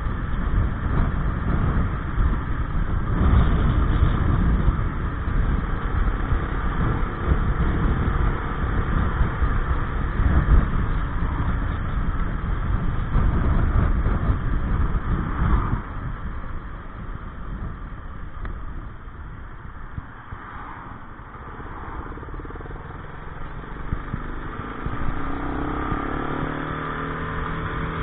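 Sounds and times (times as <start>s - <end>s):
scooter engine running: 0.0s - 20.1s, 21.0s - 28.0s
wind rumble on microphone: 0.0s - 28.0s.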